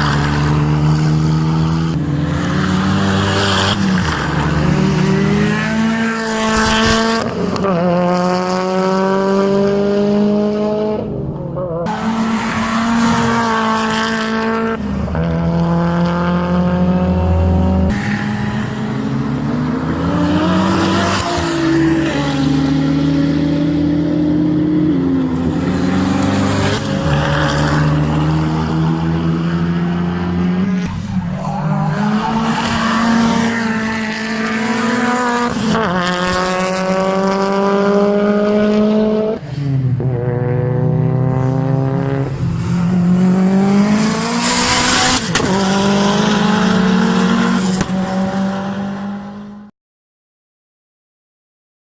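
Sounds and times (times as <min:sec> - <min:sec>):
race car engine at full throttle: 0:00.0 - 0:49.7.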